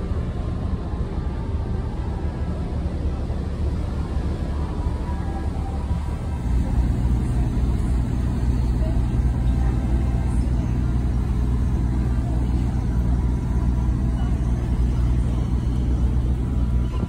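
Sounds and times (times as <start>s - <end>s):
ship engines low rumble: 0.0s - 17.0s.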